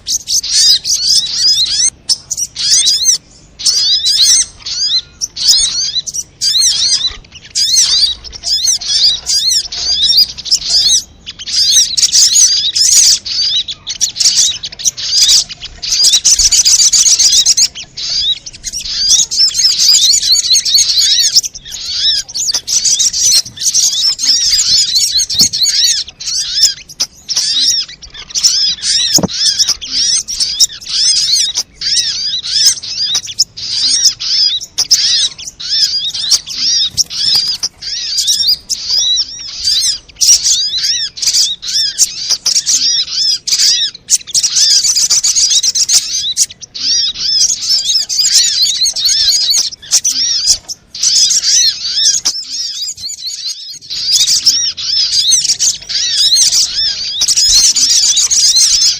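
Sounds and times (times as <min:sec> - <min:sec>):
bird twittering chirps: 0:00.0 - 0:58.9.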